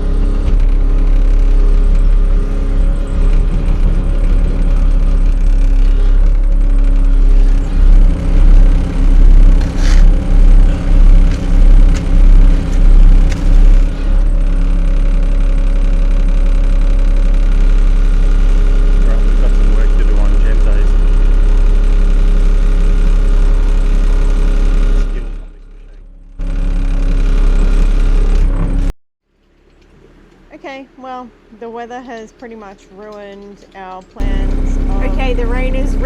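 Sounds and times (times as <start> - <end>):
diesel engine running: 0.0 - 28.9, 30.6 - 36.0
loud low throbbing: 0.0 - 28.9, 34.2 - 36.0.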